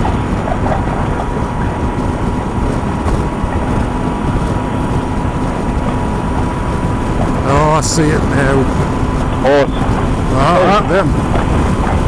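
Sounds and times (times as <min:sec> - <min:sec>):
motorcycle engine and road noise: 0:00.0 - 0:12.0
thin steady whine: 0:00.0 - 0:12.0
wind rush: 0:00.0 - 0:12.0.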